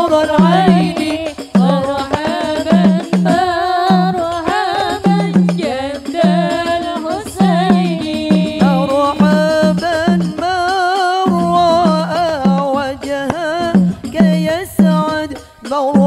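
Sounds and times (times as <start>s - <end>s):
steady drum rhythm: 0.0s - 16.0s
woman singing into a microphone: 0.0s - 16.0s.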